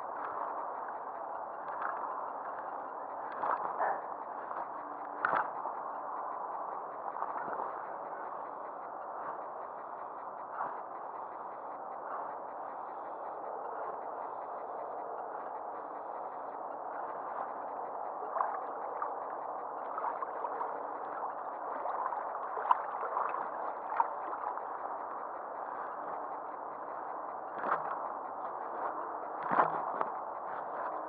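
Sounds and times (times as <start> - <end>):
water gurgling and lapping: 0.0 - 15.2, 18.3 - 31.0
light ticks: 0.0 - 31.0
steady rushing background: 0.0 - 31.0.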